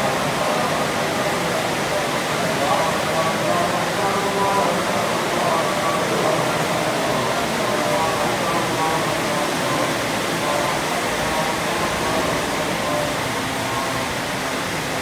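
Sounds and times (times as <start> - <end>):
heavy rain falling: 0.0 - 15.0
men chanting faintly: 0.0 - 15.0.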